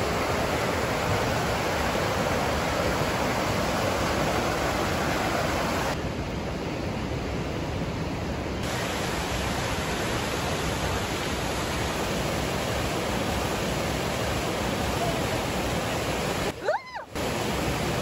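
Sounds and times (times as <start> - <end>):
creek water rushing over rocks: 0.0 - 18.0.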